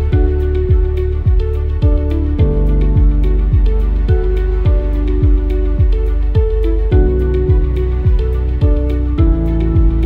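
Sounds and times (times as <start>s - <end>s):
soft held chords with beat: 0.0s - 10.0s
deep kick drum: 0.1s - 10.0s.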